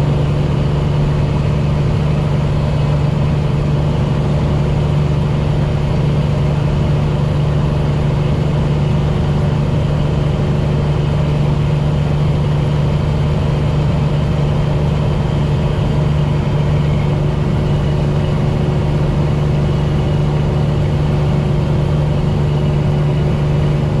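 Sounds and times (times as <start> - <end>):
diesel truck engine droning: 0.0 - 24.0.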